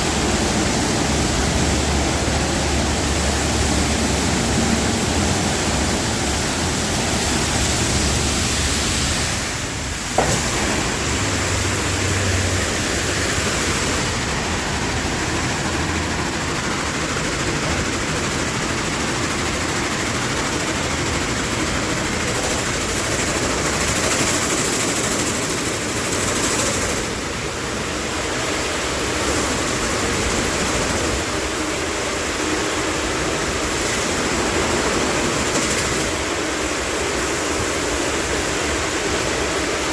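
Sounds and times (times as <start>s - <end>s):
car wash water spray rushing: 0.0s - 39.9s.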